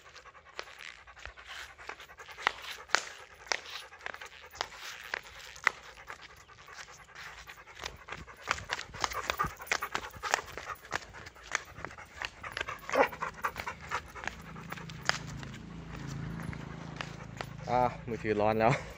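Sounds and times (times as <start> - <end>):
dog panting: 0.0 - 18.9.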